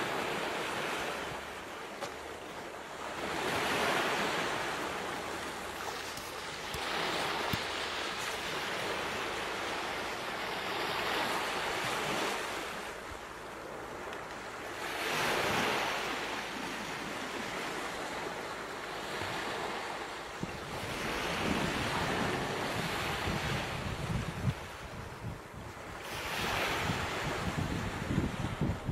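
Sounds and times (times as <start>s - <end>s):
ocean waves washing: 0.0s - 28.9s.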